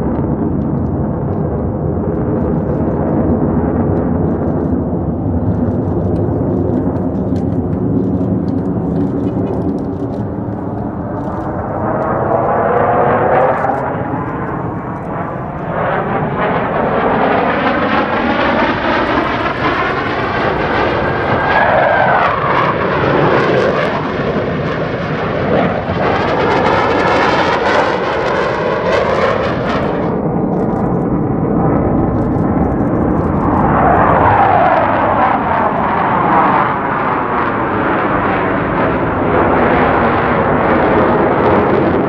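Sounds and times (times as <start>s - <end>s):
jets flying past: 0.0s - 42.0s.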